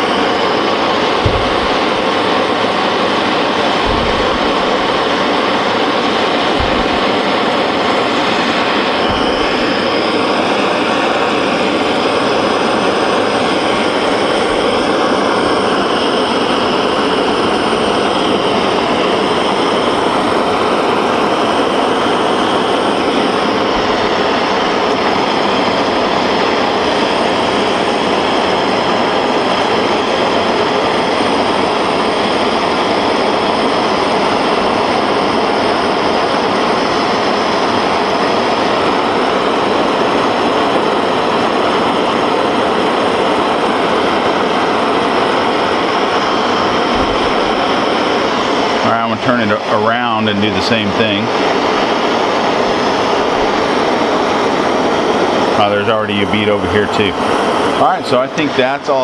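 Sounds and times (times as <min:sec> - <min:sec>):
gas torch hissing: 0:00.0 - 0:59.0.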